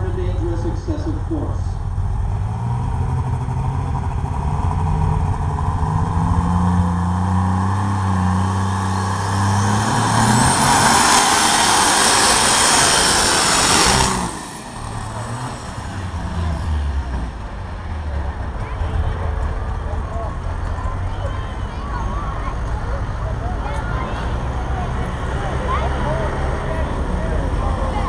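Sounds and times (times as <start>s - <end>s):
tractor engine running hard: 0.0s - 28.0s.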